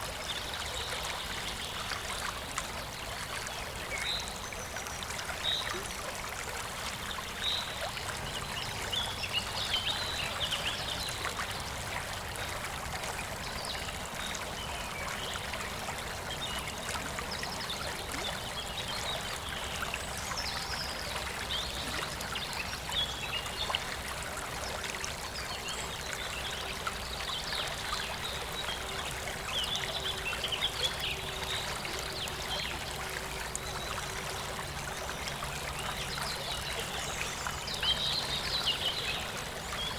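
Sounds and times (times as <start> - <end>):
river flowing: 0.0 - 39.9
water gurgles: 0.0 - 39.9.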